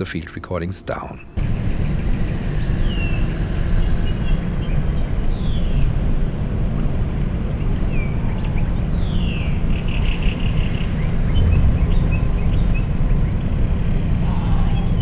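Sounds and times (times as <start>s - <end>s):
deep industrial rumble: 0.0s - 15.0s.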